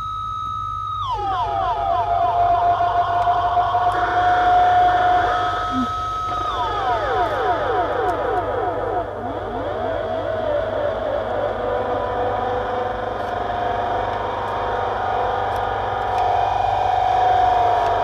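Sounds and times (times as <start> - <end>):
constant low hum: 0.0 - 18.0
electronic feedback tones: 0.0 - 18.0.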